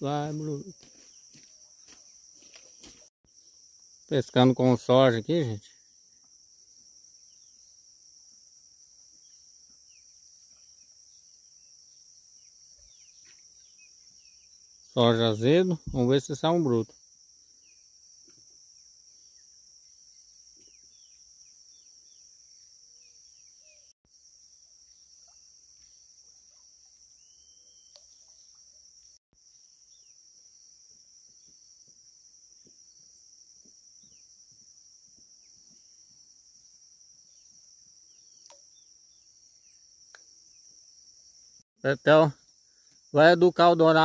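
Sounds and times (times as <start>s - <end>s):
insects chirping: 0.0s - 44.0s.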